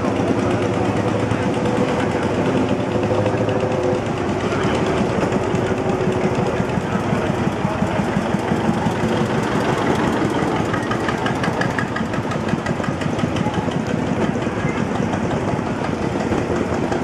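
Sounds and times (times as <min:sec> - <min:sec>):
tractor engine chugging: 0:00.0 - 0:17.0.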